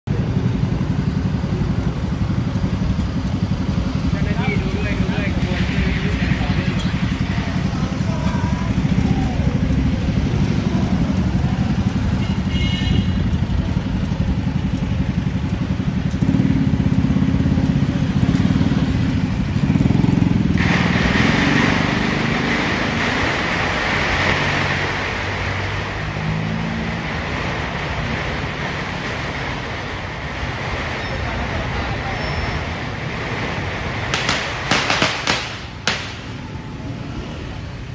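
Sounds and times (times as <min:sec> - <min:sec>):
vehicle engines passing: 0:00.0 - 0:37.9.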